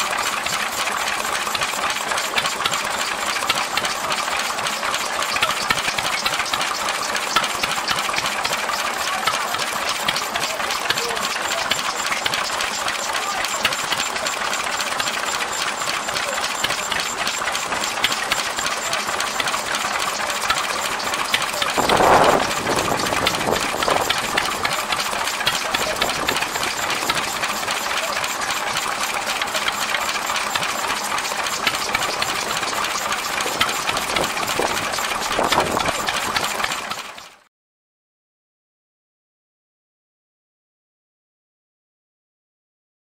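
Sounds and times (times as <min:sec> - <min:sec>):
stationary engine chuffing: 0:00.0 - 0:37.5.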